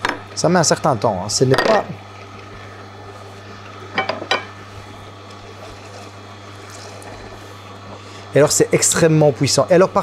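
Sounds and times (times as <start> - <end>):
juicer humming: 0.0 - 10.0.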